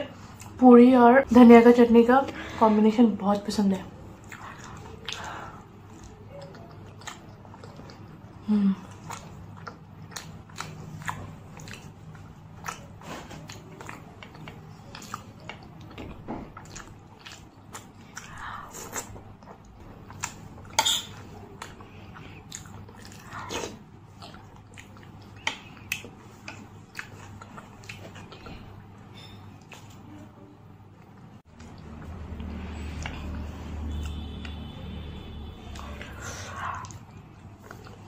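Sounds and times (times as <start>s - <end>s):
mouth chewing clicks and smacks: 4.1s - 30.2s, 31.0s - 34.7s, 35.6s - 38.0s.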